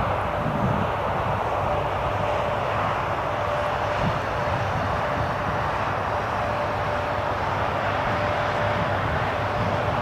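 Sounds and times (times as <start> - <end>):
distant train rumble: 0.0 - 10.0.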